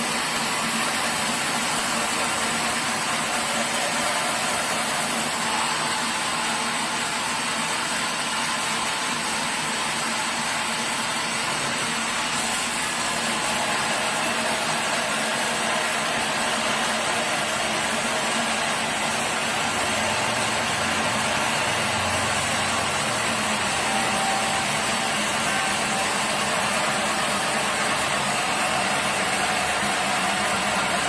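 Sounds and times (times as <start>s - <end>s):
sawmill machinery running: 0.0s - 31.0s.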